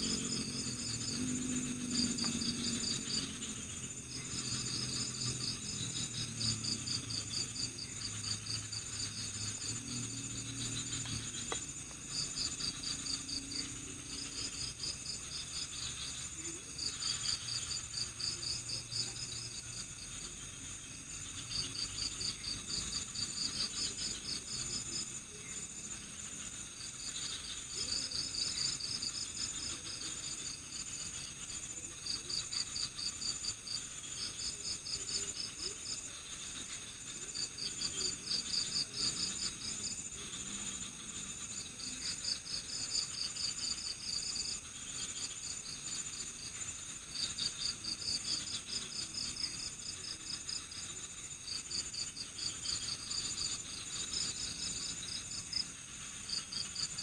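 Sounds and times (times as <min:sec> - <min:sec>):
crickets chirping: 0:00.0 - 0:57.0
insect trill: 0:00.0 - 0:57.0.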